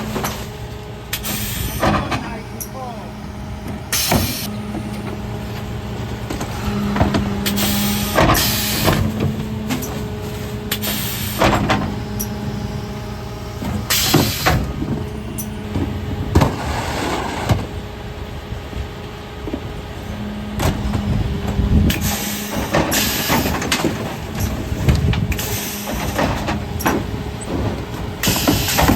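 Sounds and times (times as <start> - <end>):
truck engine and hydraulics humming: 0.0 - 28.9.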